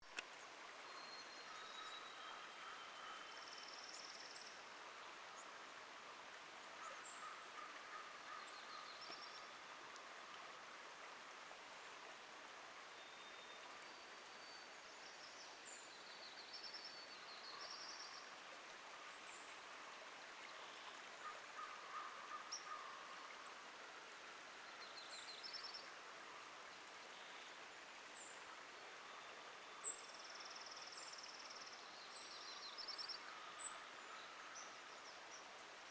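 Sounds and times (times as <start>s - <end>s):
running water hiss: 0.0s - 35.9s.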